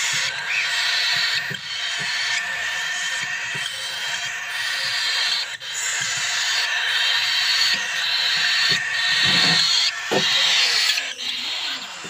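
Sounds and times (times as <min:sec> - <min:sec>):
parrot chicks begging calls: 0:00.0 - 0:12.0.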